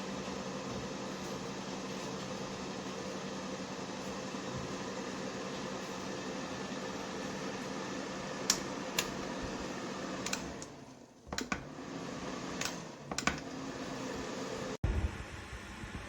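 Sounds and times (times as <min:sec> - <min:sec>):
fan heater whirring: 0:00.0 - 0:16.0.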